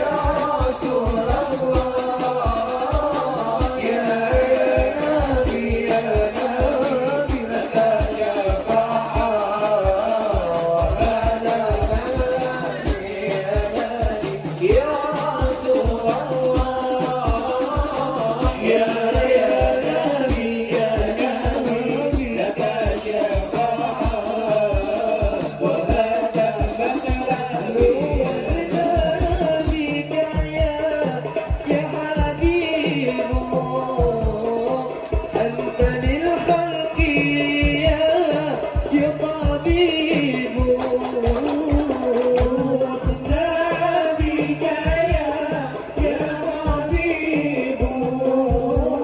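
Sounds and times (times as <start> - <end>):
frame drums beating: 0.0 - 49.0
man singing over a pa: 0.0 - 49.0.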